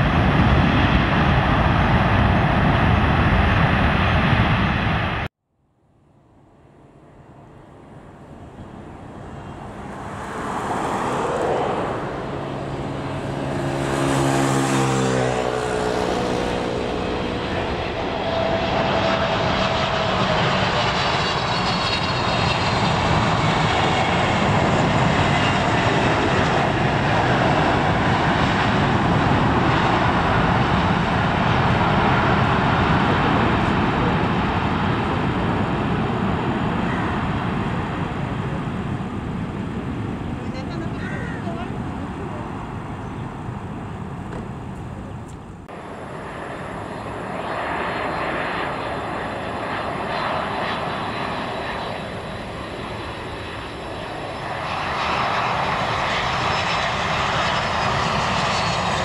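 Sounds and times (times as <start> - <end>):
jet engines landing: 0.0 - 5.3, 6.1 - 59.0
jet engine whine: 0.0 - 59.0.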